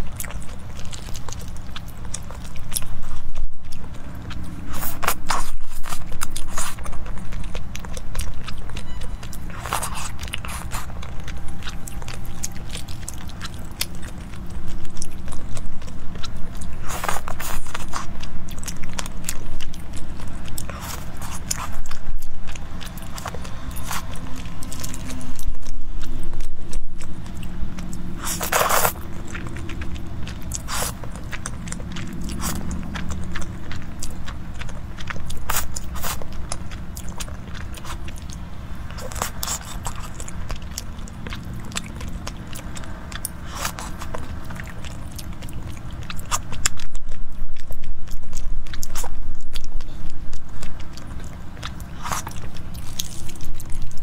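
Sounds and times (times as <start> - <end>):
mouth smacks and clicks: 0.0 - 54.0
wet chewing: 0.0 - 54.0.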